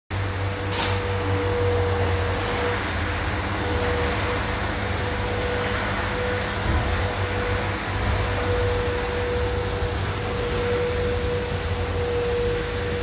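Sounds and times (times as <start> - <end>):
mechanical hum and hiss: 0.1 - 13.0.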